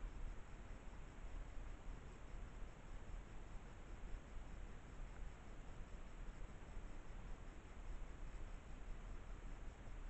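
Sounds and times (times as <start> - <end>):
microphone hiss: 0.0 - 10.0.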